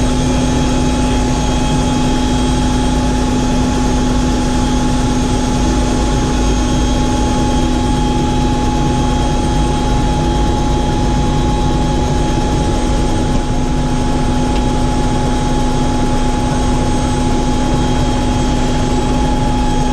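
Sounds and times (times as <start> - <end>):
helicopter engine and rotor: 0.0 - 19.9.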